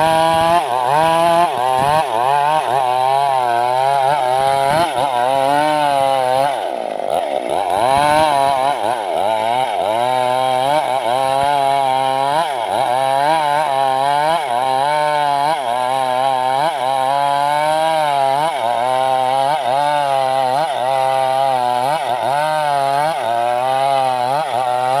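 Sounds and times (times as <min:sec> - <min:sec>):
chainsaw cutting log: 0:00.0 - 0:25.0.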